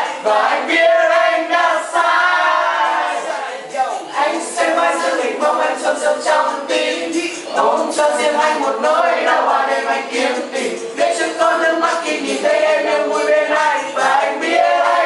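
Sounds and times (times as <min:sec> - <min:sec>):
group singing unaccompanied: 0:00.0 - 0:15.0.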